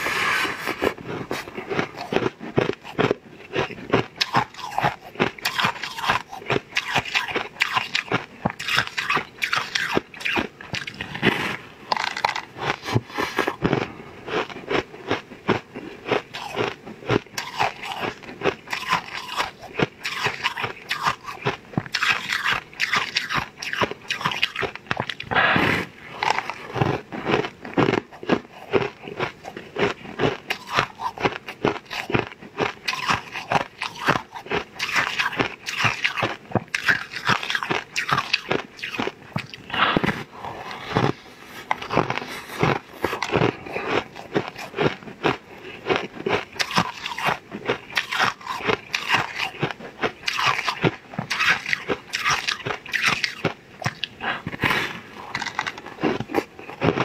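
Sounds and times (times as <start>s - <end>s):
crunching bites of rice cracker: 0.8s - 25.4s, 26.1s - 57.0s.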